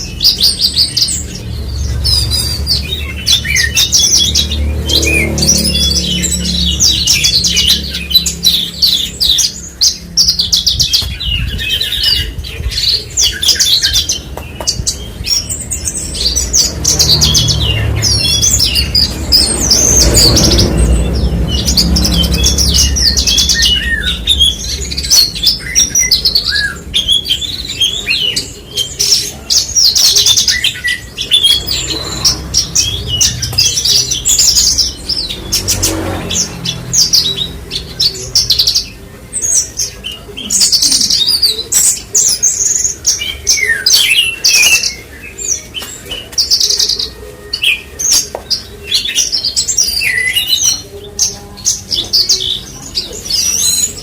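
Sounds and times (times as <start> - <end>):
lark singing chirps and trills: 0.0 - 54.0.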